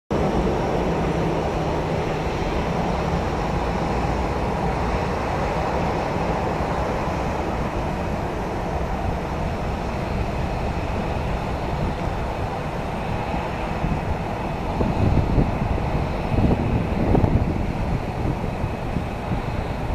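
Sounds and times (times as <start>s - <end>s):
distant jet engines rumbling: 0.1s - 19.9s
wind buffeting microphone: 0.1s - 19.9s.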